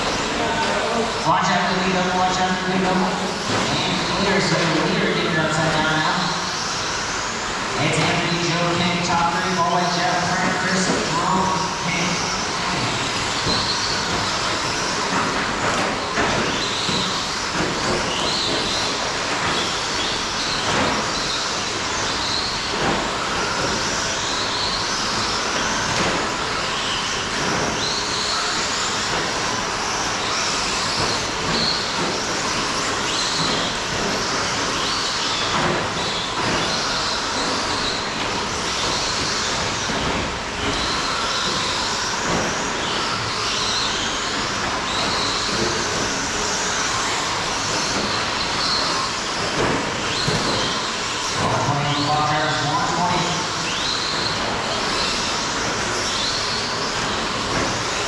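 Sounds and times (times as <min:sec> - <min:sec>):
rc car motor whine: 0:00.0 - 0:58.0.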